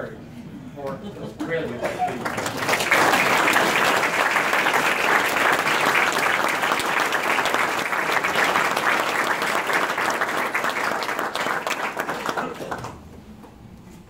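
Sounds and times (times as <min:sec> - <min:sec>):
audience applauding: 0:01.7 - 0:13.0.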